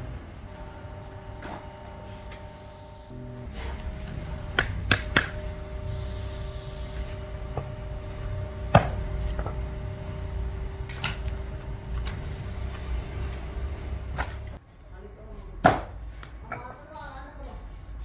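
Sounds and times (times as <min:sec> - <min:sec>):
low machine hum: 0:00.0 - 0:14.6.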